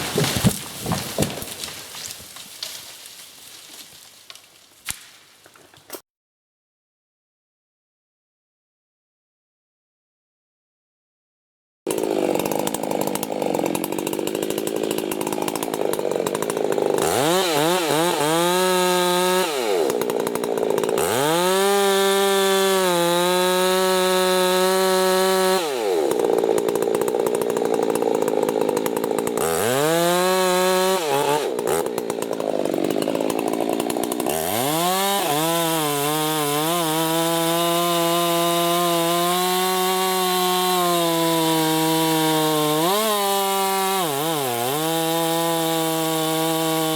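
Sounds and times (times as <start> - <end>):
chainsaw sawing and revving: 0.0 - 6.0, 11.9 - 46.9.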